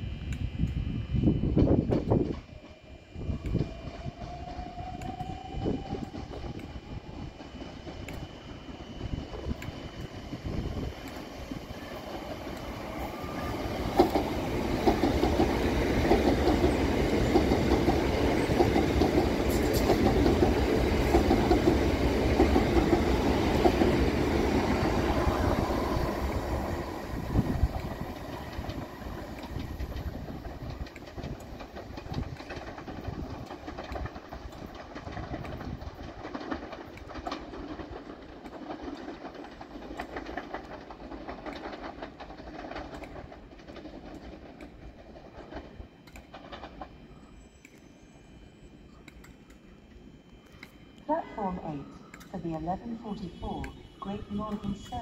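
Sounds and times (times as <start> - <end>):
train wheels clattering over rail joints: 3.4 - 47.8.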